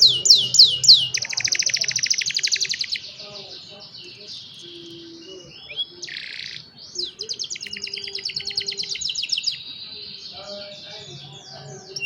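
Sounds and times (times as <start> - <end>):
canaries singing: 0.0 - 12.0.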